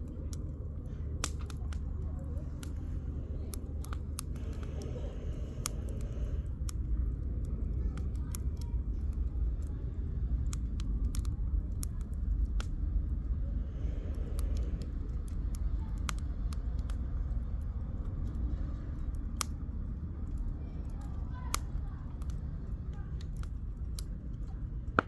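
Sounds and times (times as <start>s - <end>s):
campfire crackling and popping: 0.0s - 25.0s
low rumble: 0.0s - 25.0s.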